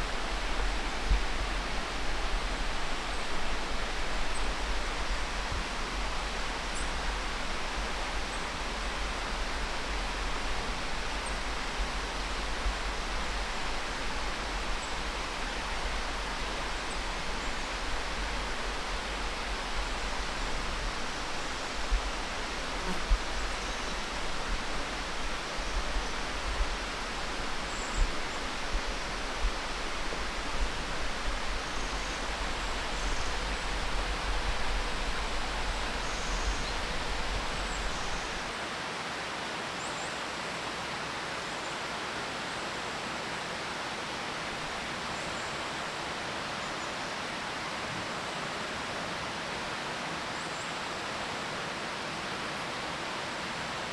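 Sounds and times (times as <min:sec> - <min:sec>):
rushing outdoor ambient noise: 0:00.0 - 0:53.9.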